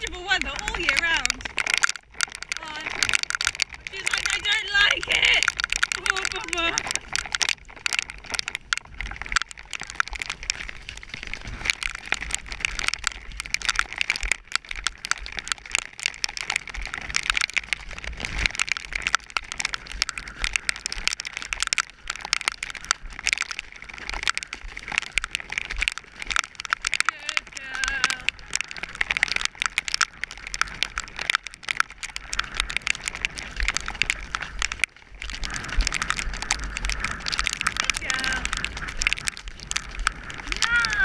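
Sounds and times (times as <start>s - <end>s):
heavy rain hitting camera: 0.0s - 41.0s.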